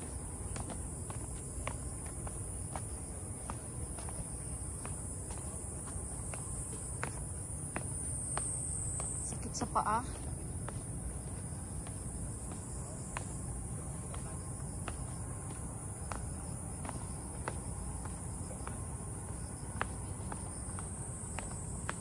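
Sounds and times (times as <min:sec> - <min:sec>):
footsteps on a trail: 0:00.0 - 0:22.0
insects droning: 0:00.0 - 0:22.0.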